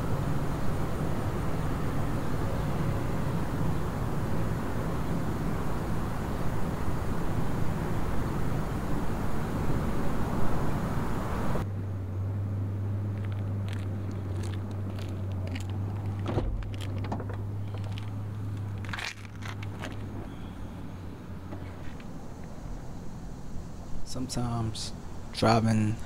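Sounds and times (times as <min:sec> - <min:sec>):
car humming: 0:00.0 - 0:26.0
rushing outdoor noise: 0:00.0 - 0:26.0.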